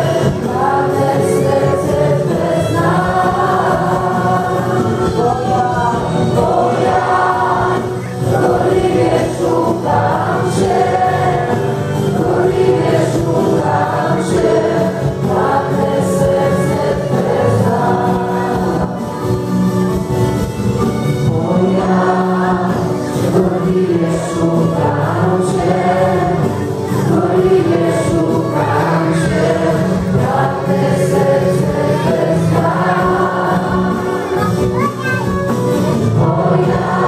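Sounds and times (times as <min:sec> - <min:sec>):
congregation singing: 0:00.0 - 0:34.8, 0:35.7 - 0:37.0.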